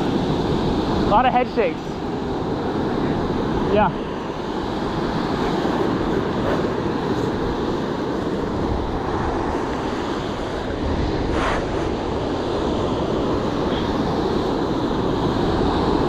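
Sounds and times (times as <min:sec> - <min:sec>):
wind rumbling on microphone: 0:00.0 - 0:16.0
breaking surf: 0:02.3 - 0:16.0.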